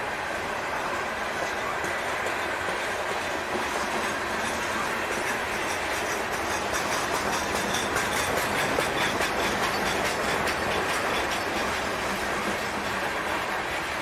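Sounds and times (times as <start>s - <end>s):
freight train wheels rolling on rails: 0.0s - 14.0s
clicks and rattles of train cars: 0.1s - 14.0s.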